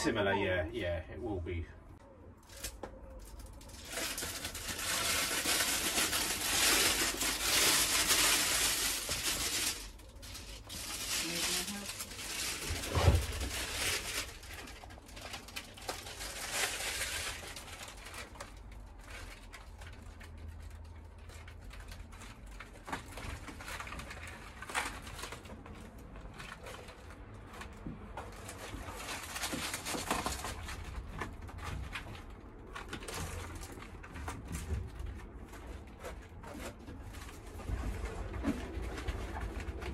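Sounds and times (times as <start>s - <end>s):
foil foam rustling and crinkling: 2.4s - 39.9s.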